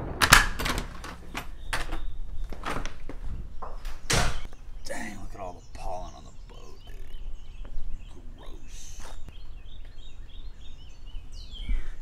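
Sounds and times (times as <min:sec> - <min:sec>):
songbird chirping: 0:01.0 - 0:12.0.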